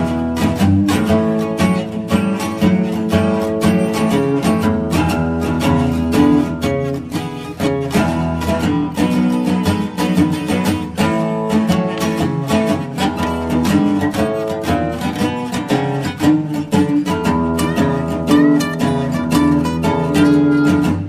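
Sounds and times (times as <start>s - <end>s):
background music with strummed guitar: 0.0s - 21.0s.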